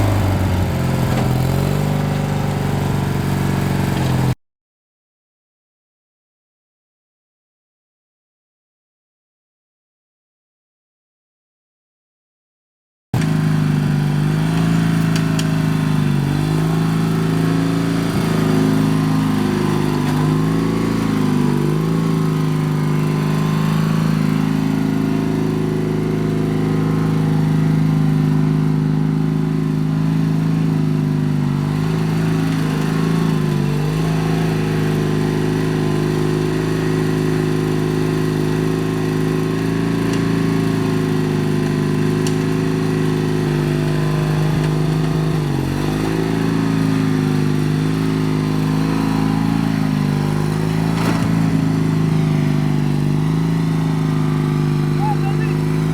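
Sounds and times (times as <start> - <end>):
lawn tractor engine running: 0.0 - 4.4, 13.2 - 55.9.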